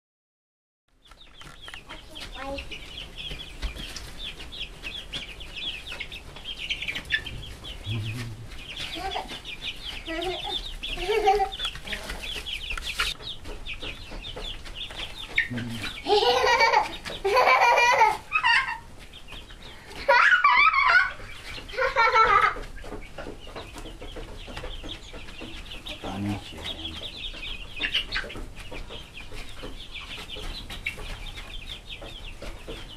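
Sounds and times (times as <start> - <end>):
hens clucking: 1.0 - 32.9.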